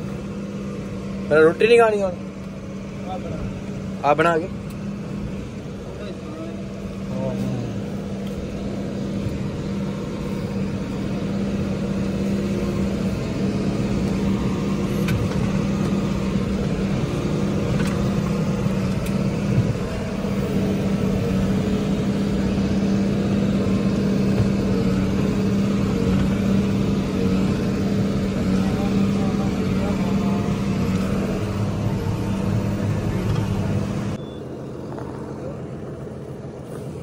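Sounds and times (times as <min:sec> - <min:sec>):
tractor diesel engine drone: 0:00.0 - 0:37.0.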